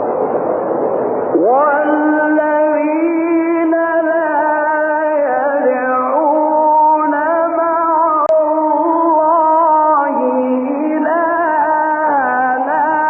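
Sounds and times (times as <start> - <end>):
man reciting melodically: 1.4 - 13.0.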